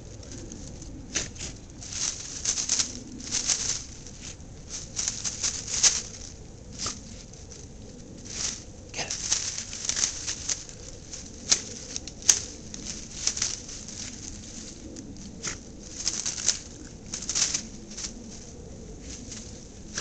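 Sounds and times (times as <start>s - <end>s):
dogs rustling dry sticks and leaves: 0.0s - 20.0s.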